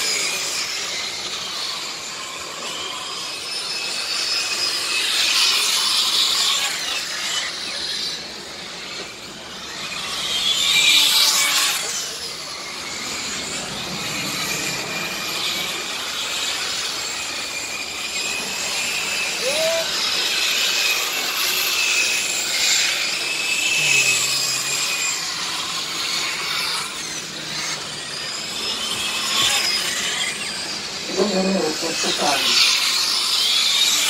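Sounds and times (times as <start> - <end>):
rc car motors whining: 0.0 - 34.0.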